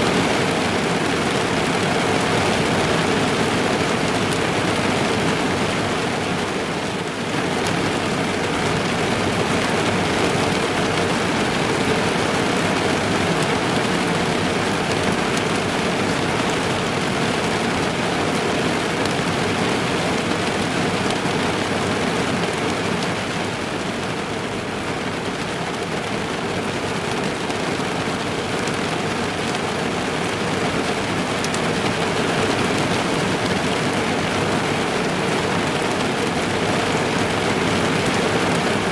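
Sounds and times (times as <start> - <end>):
rain on car roof: 0.0 - 38.9.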